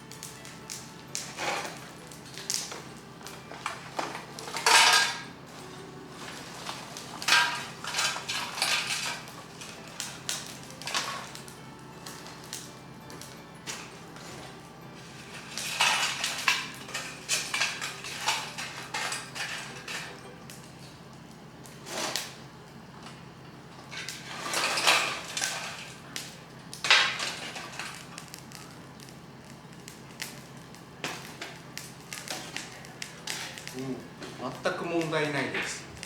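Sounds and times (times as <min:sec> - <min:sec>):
charcoal clattering against metal stove: 0:00.0 - 0:36.0.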